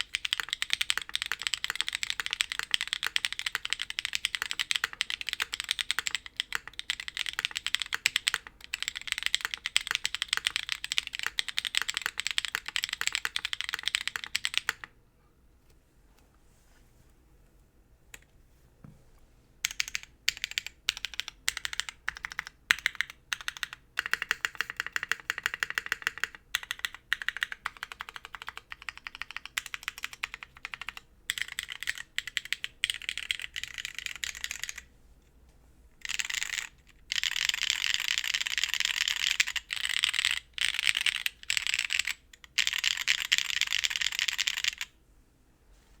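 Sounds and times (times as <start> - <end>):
mechanical keyboard typing: 0.0 - 14.9, 19.6 - 34.9, 36.0 - 44.9.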